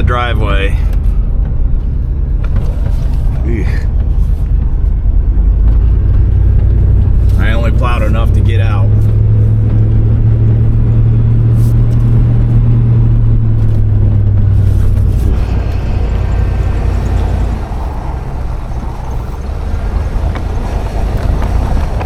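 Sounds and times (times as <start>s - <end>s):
vehicle engine in deep snow: 0.0s - 22.0s.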